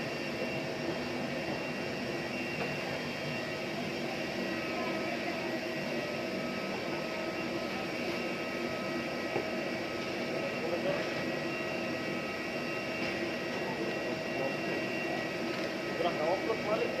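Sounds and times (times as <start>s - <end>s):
jet turbine whine: 0.0s - 17.0s.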